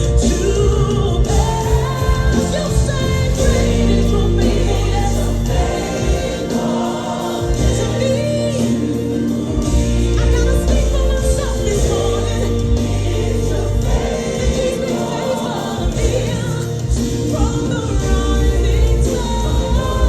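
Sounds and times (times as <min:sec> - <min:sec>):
band playing: 0:00.0 - 0:20.0
choir singing: 0:00.0 - 0:20.0.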